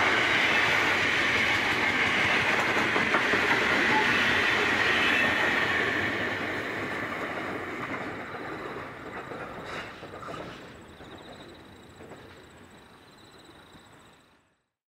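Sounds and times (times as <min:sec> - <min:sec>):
train wheels rolling on rails: 0:00.0 - 0:14.5.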